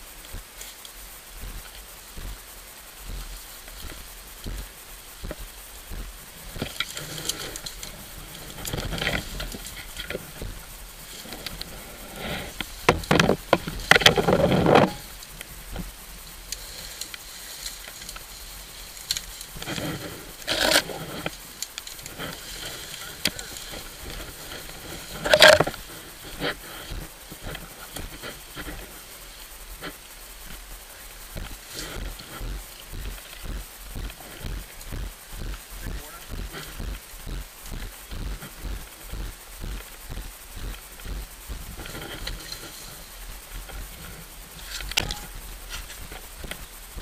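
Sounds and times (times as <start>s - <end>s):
leaves and branches rustling and snapping: 0.0s - 47.0s.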